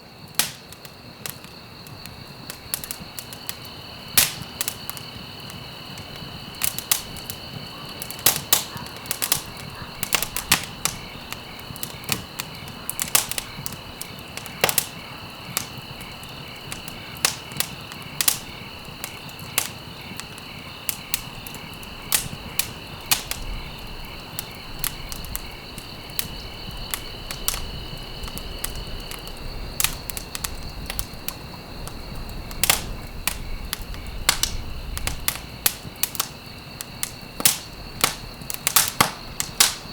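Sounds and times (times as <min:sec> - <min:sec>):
insect trill: 0:00.0 - 0:39.9
campfire crackling and popping: 0:00.1 - 0:39.9.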